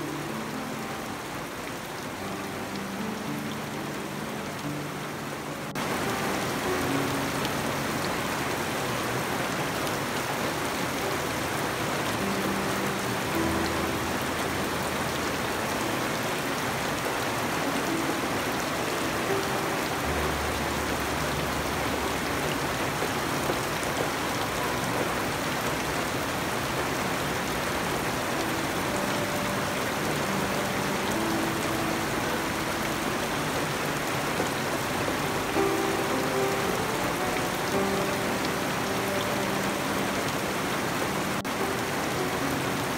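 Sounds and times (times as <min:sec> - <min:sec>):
steady rain on foliage: 0:00.0 - 0:42.9.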